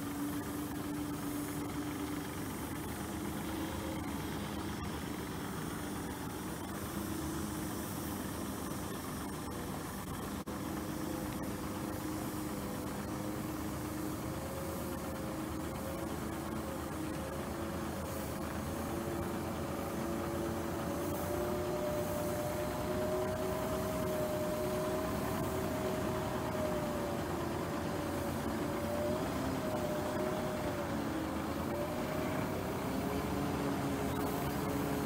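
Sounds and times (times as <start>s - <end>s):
faint whine: 0.0s - 35.0s
heavy truck engine running: 0.0s - 35.0s.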